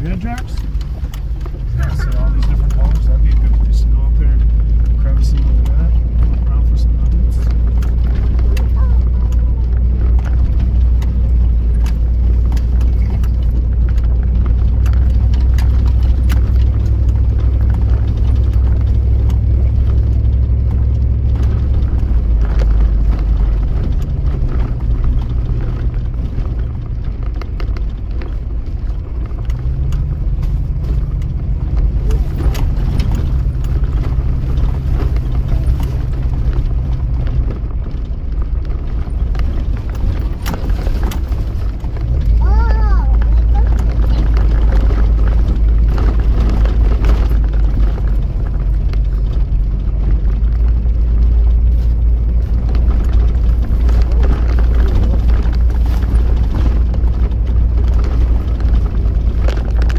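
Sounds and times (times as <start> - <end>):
knocks and rattles from bumps: 0.0 - 59.9
vehicle engine droning: 0.0 - 59.9.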